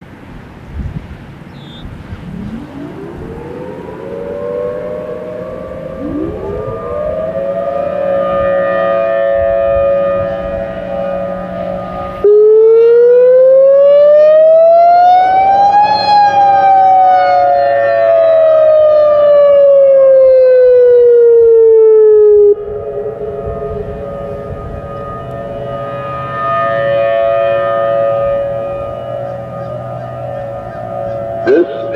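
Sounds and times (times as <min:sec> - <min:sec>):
mechanical sirens wailing: 0:01.3 - 0:31.9
electronic siren wail: 0:01.6 - 0:31.9.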